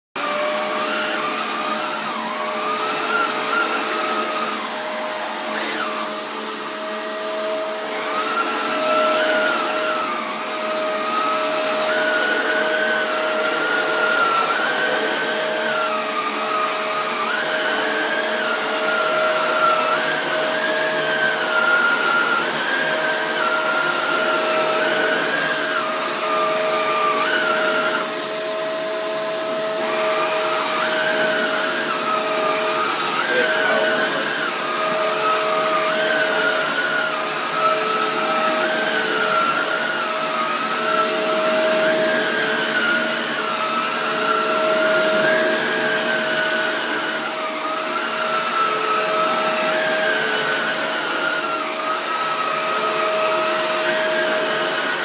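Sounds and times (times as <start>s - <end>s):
vacuum cleaner motor whine: 0.2s - 55.0s.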